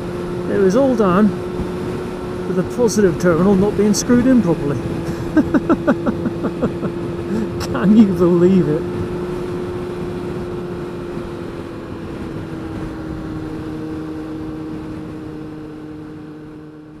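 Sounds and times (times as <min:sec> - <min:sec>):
motorcycle engine cruising: 0:00.0 - 0:17.0
wind rush over microphone: 0:00.0 - 0:17.0.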